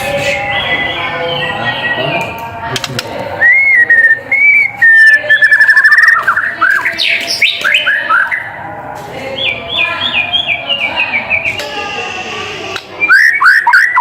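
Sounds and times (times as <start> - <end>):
songbird singing: 0.0 - 2.7, 3.4 - 11.8, 13.0 - 14.0.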